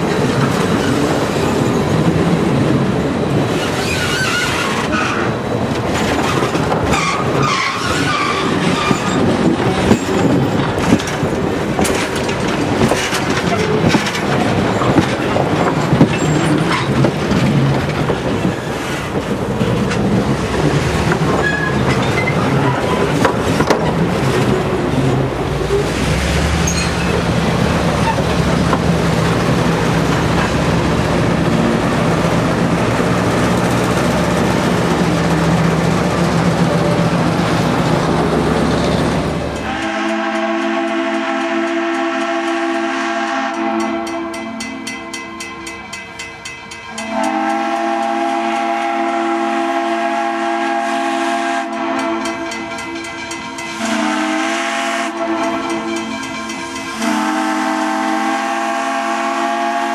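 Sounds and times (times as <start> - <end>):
train wheels clicking over rail joints: 0.0 - 42.8, 51.6 - 58.9.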